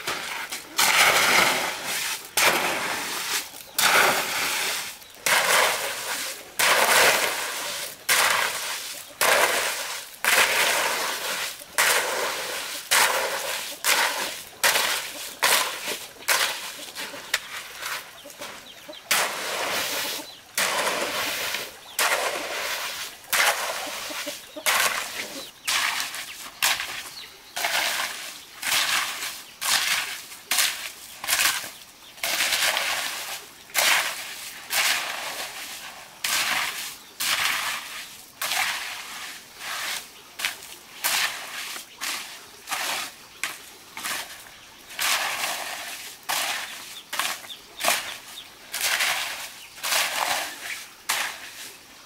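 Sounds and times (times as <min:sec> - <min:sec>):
hoe scraping through gravel: 0:00.0 - 0:51.9.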